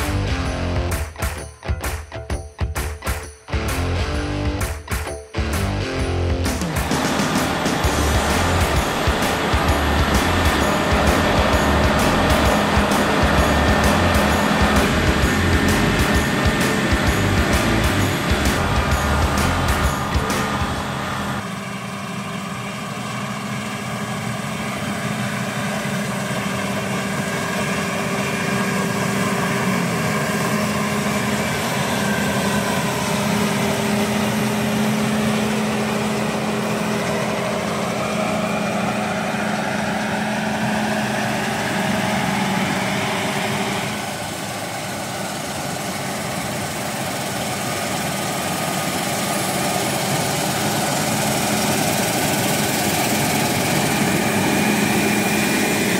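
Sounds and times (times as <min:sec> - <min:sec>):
combine harvester running: 0:00.0 - 0:02.0, 0:02.8 - 0:55.9.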